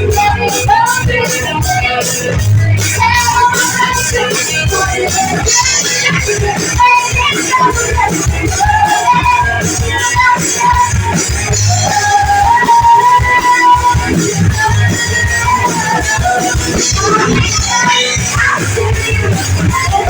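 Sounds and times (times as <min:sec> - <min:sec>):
person singing: 0:00.0 - 0:20.0
rock band playing live: 0:00.0 - 0:20.0.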